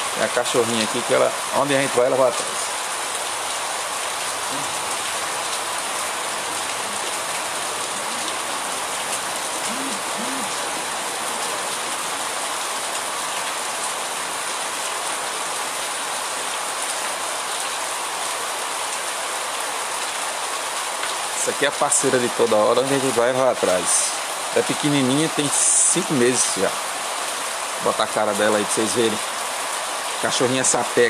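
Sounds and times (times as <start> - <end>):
rain on roofs and street: 0.0 - 31.0.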